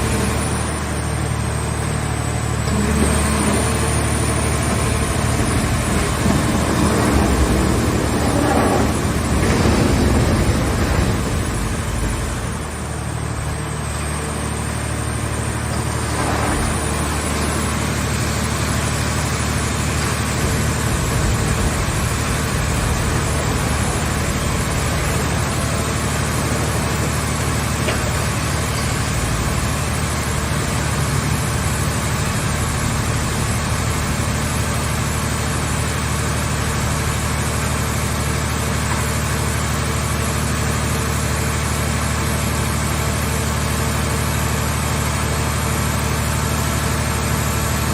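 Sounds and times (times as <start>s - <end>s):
hydraulic pump humming: 0.0s - 47.9s.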